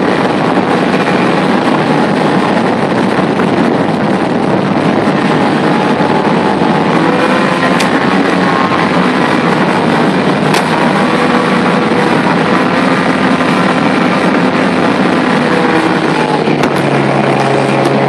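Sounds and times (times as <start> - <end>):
watercraft engine drone: 0.0 - 18.0.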